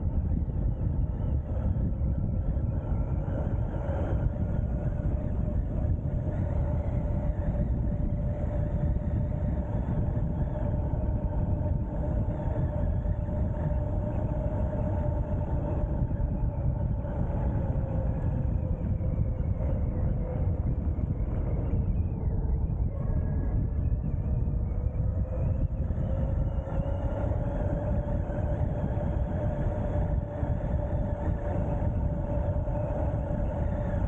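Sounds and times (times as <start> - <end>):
electric motor whine: 0.0 - 34.0
wind rushing over microphone: 0.0 - 34.0.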